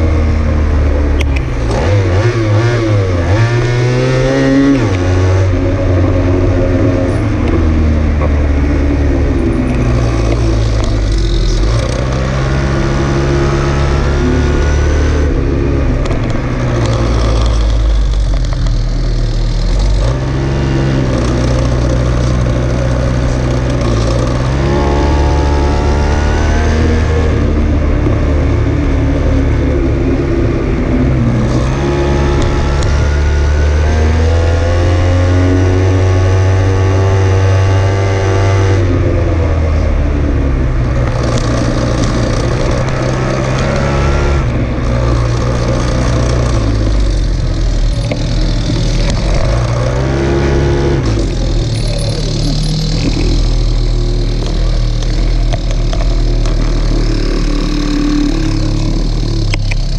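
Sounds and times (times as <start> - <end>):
small engine revving: 1.2 - 39.9, 40.8 - 59.9.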